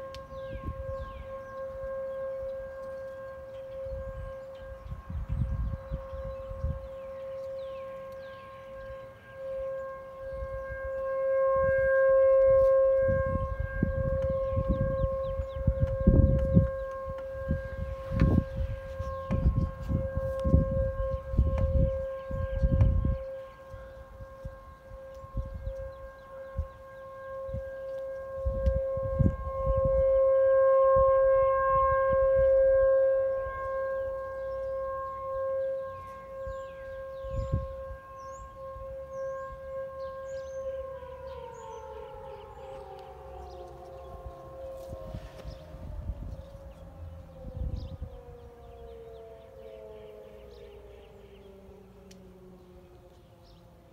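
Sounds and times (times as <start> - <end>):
low rumbling buffets: 0.0 - 53.9
tornado warning siren steady tone: 0.0 - 53.9.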